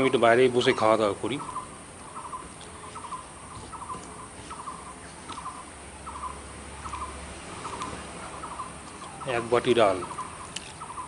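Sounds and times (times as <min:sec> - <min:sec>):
small animal rattly calls: 0:00.0 - 0:11.0.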